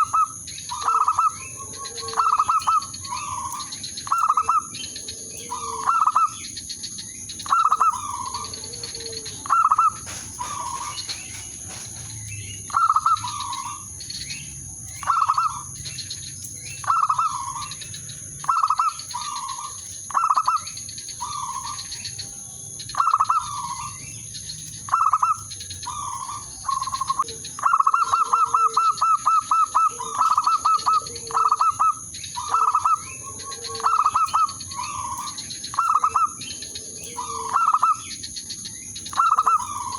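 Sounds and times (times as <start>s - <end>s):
dove cooing: 0.0s - 6.6s, 7.3s - 16.0s, 16.7s - 24.2s, 24.8s - 38.3s, 39.1s - 39.9s
small birds chirping: 0.0s - 39.9s.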